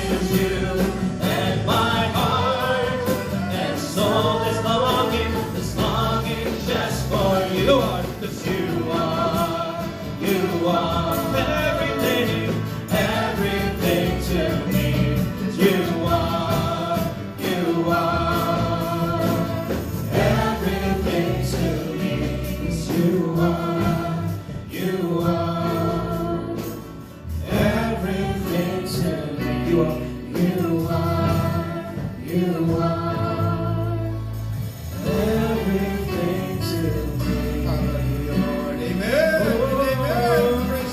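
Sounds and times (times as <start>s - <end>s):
band playing: 0.0s - 40.9s
gospel choir singing: 0.0s - 40.9s.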